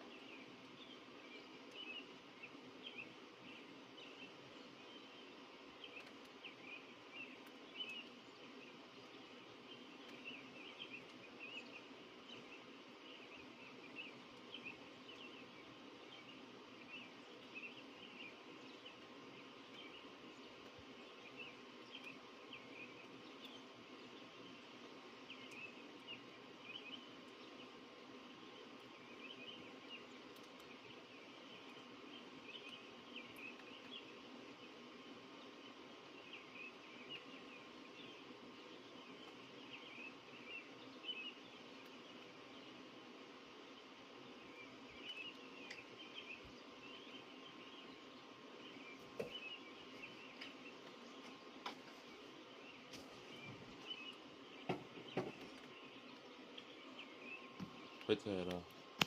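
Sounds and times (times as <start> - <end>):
faint steady hum: 0.0 - 59.0
small birds chirping: 0.0 - 59.0.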